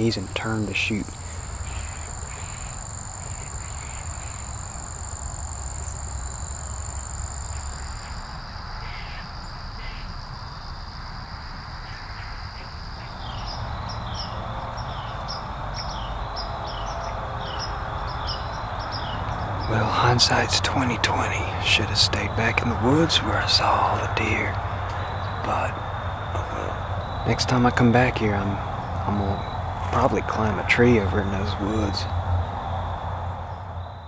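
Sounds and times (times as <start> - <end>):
bird calls: 0.0 - 10.3, 11.8 - 34.0
insects trilling: 0.0 - 34.0.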